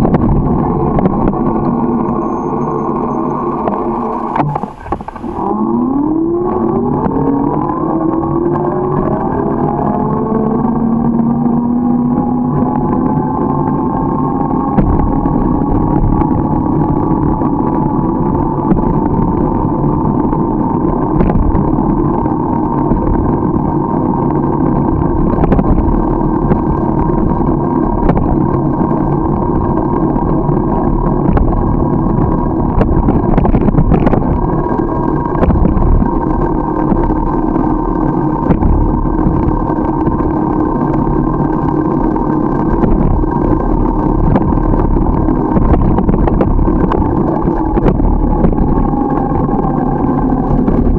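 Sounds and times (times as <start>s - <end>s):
constant hum: 0.0s - 50.9s
wind and tyre noise: 0.0s - 50.9s.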